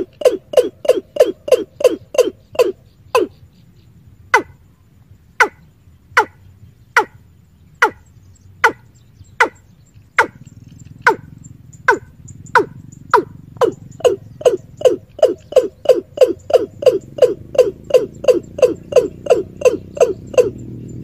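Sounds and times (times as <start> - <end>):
bird calling: 0.0 - 21.0.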